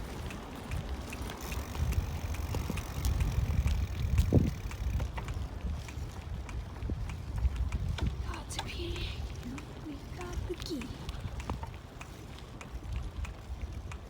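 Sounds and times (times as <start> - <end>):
small clicks and rattles: 0.0 - 14.0
wind rumble on microphone: 0.0 - 14.0.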